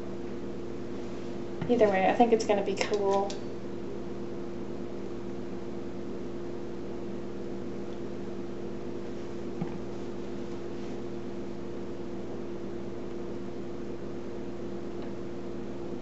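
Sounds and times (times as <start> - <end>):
mechanical hum with tones: 0.0 - 16.0.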